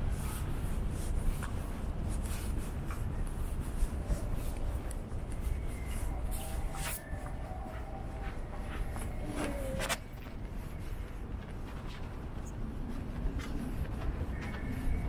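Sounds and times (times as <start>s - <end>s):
light scuffs and clicks: 0.0s - 15.0s
low street rumble: 0.0s - 15.0s.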